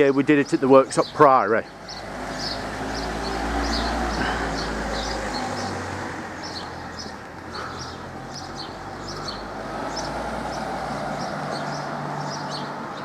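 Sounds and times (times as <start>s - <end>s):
low rumble of traffic: 0.0s - 13.0s
small birds chirping: 0.0s - 13.0s.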